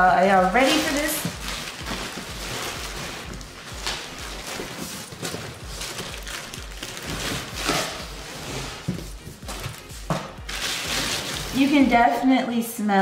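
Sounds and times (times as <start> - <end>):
background music with low beat: 0.0 - 13.0
cardboard and plastic rustling: 0.2 - 12.0.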